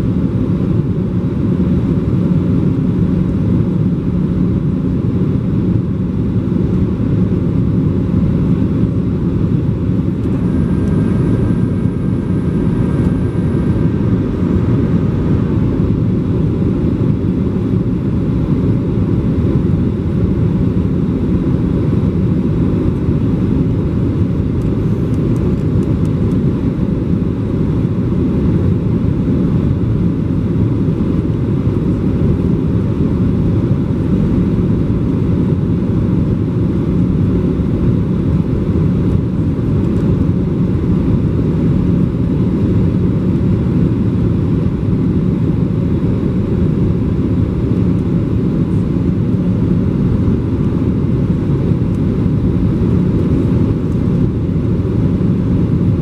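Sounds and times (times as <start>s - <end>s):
jet engine rumble: 0.0s - 56.0s.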